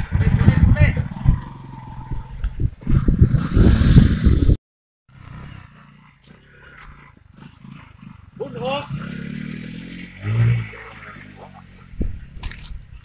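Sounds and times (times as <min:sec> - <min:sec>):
motorcycle engine revving hard: 0:00.0 - 0:04.5, 0:05.1 - 0:12.4.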